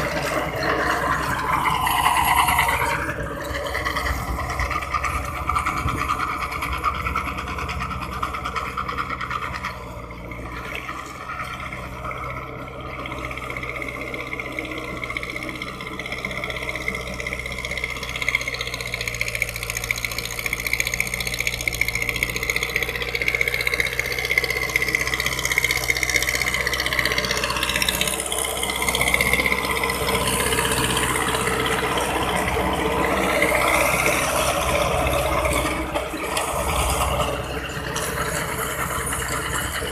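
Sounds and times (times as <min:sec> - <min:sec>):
rotavator blades churning earth: 0:00.0 - 0:39.9
tractor diesel engine running: 0:00.0 - 0:39.9.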